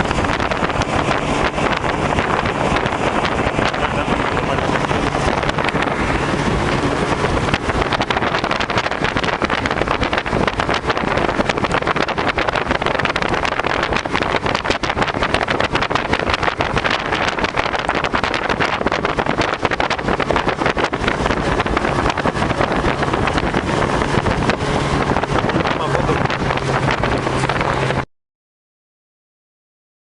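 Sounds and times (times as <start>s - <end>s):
vehicle engine and road noise: 0.0s - 28.1s
wind buffeting microphone: 0.0s - 28.1s.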